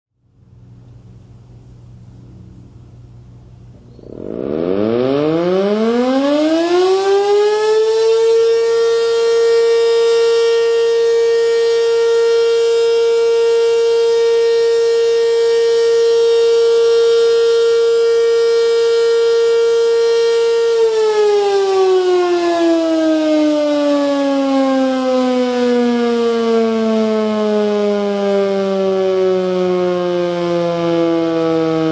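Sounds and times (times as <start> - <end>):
warning siren winding: 4.1 - 31.9.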